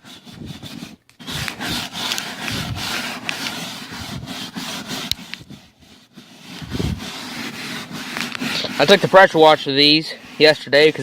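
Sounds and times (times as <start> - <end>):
scrub brush scrubbing tire: 0.0 - 11.0.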